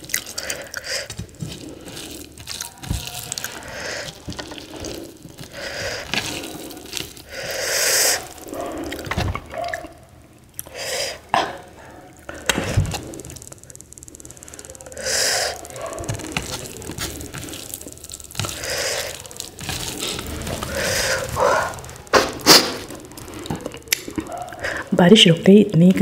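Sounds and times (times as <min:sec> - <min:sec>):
fingers squelching rice: 0:00.0 - 0:24.8
wet chewing and smacking: 0:00.0 - 0:24.9.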